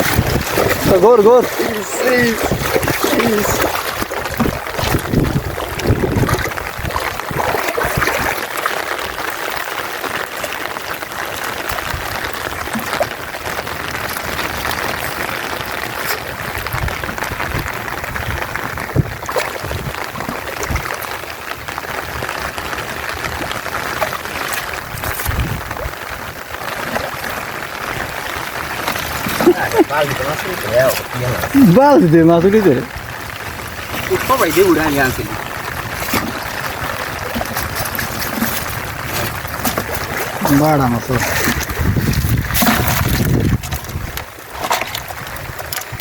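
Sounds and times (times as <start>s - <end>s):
water splashing and trickling: 0.0s - 46.0s.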